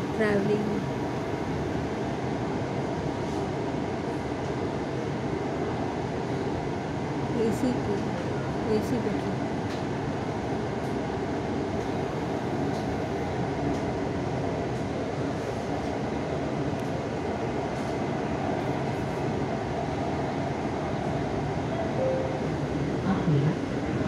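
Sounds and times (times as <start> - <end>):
metro train running: 0.0 - 24.0.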